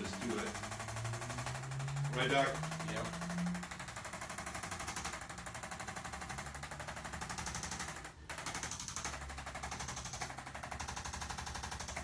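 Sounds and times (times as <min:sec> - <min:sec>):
electric massager pulsing: 0:00.0 - 0:12.0.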